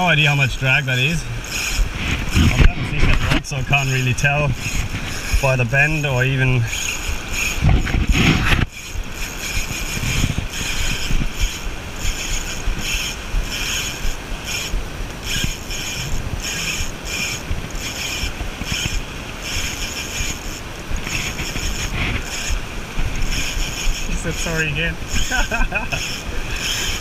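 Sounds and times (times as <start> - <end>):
fishing reel drag letting out line: 0.0 - 27.0.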